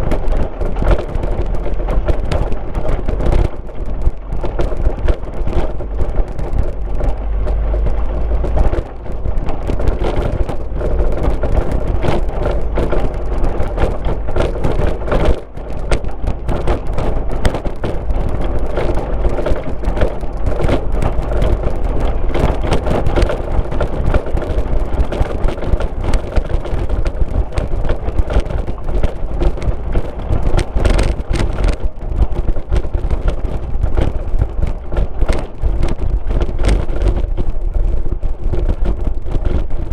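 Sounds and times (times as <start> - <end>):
car engine and tyre rumble: 0.0 - 39.9
crackles and knocks from road: 0.0 - 39.9
wind on microphone: 0.0 - 39.9.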